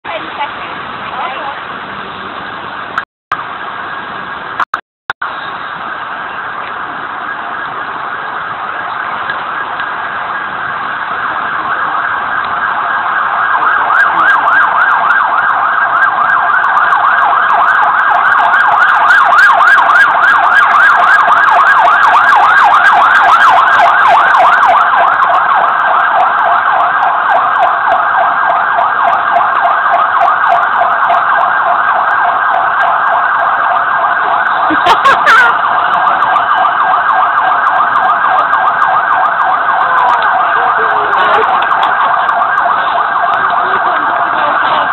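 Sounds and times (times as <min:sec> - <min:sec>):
siren yelping: 0:07.2 - 0:44.9.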